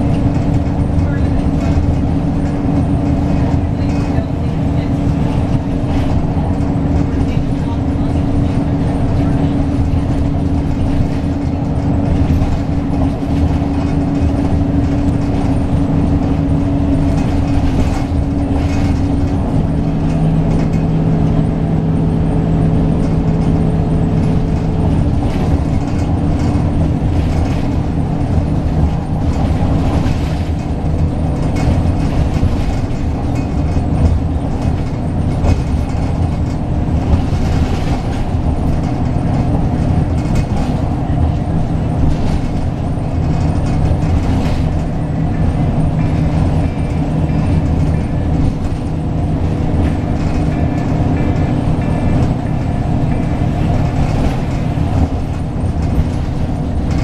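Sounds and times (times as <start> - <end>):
bus body rattles and knocks: 0.0 - 57.0
bus diesel engine hum: 0.0 - 57.0
road and tyre noise: 0.0 - 57.0.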